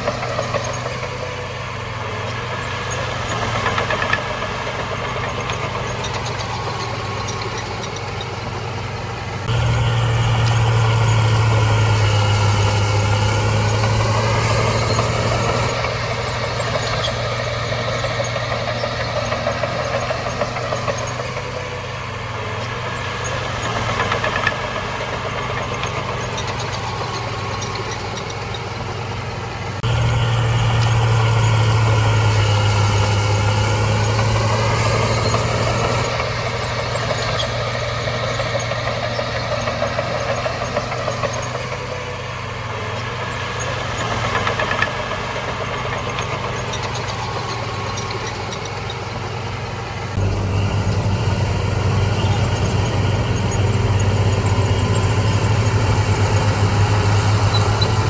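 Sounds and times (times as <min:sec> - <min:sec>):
heavy diesel engine droning: 0:00.0 - 0:58.0.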